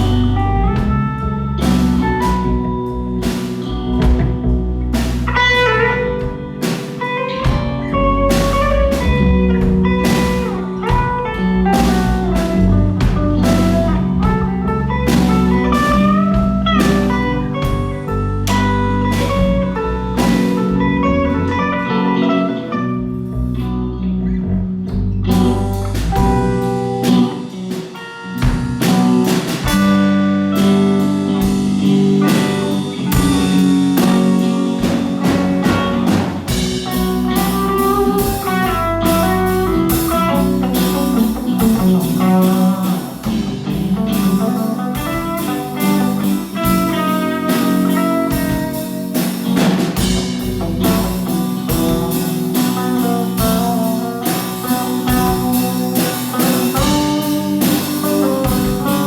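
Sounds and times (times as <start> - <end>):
drum hits: 0.0 - 21.6, 25.3 - 59.0
band playing: 0.0 - 59.0.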